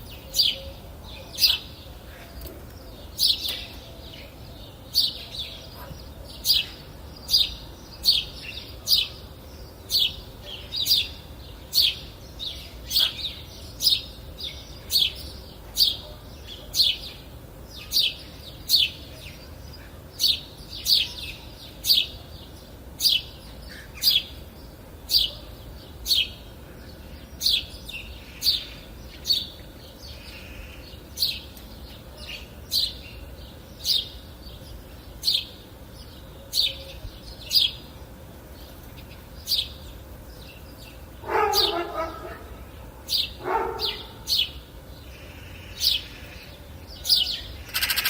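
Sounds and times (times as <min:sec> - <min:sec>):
songbird chirping: 0:00.0 - 0:48.0.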